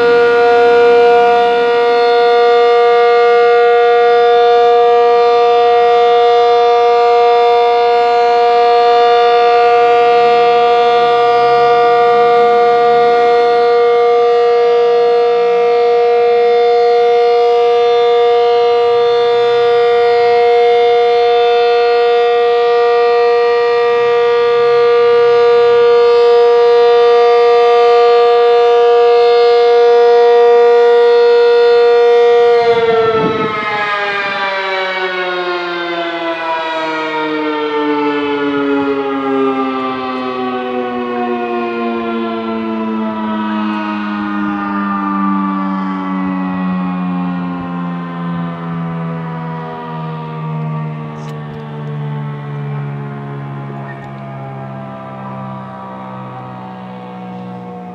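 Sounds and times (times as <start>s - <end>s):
tornado siren steady tone: 0.0s - 57.9s.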